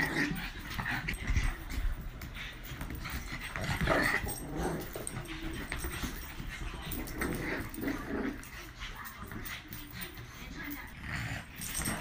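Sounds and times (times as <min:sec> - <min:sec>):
dog play noises: 0:00.0 - 0:12.0.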